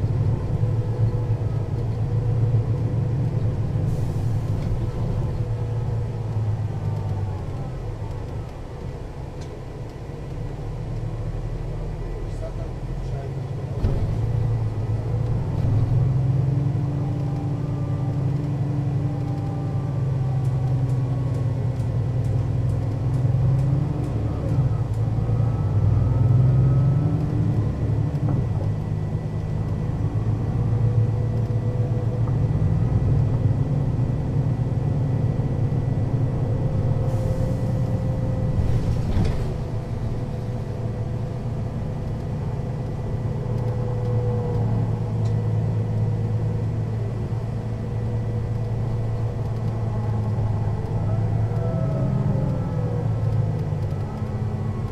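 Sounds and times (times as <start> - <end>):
bus diesel engine driving: 0.0 - 54.9.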